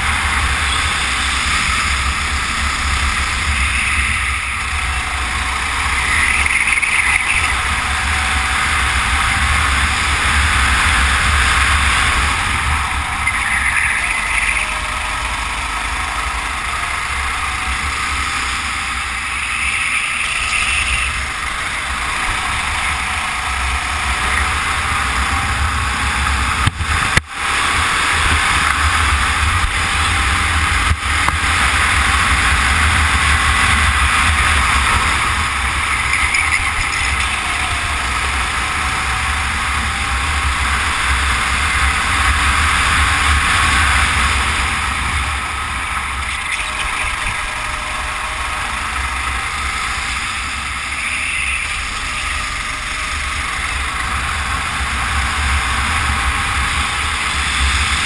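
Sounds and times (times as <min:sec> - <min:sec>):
kart engine running at speed: 0:00.0 - 0:58.0
wind rumbling on microphone: 0:00.0 - 0:58.0.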